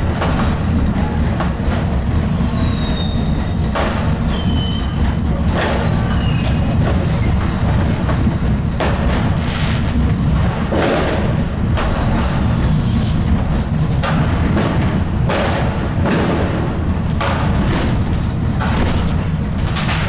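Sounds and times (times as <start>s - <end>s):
tram running rumble: 0.0s - 20.0s.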